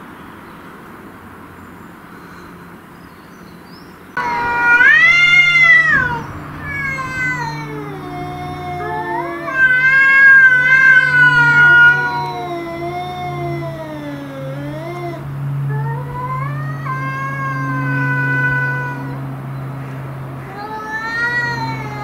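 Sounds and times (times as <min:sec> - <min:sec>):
cats moaning: 0:04.2 - 0:22.0
cats yowling: 0:04.2 - 0:22.0.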